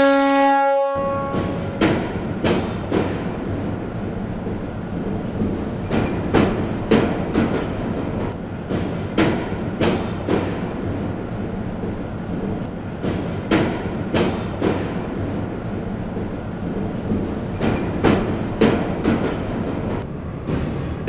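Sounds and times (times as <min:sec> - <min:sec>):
train rumbling on rails: 0:01.0 - 0:21.0
wheels clacking over rail joints: 0:01.8 - 0:11.2, 0:11.8 - 0:20.0.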